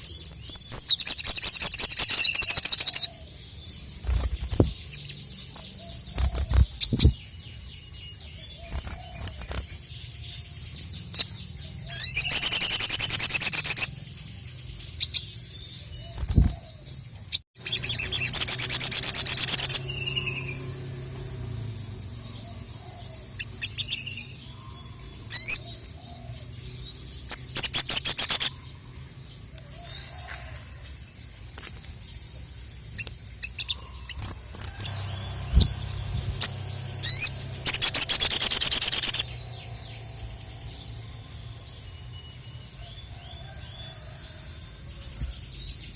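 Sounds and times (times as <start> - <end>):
bird chips and rattling trills: 0.0 - 26.0, 31.2 - 44.4.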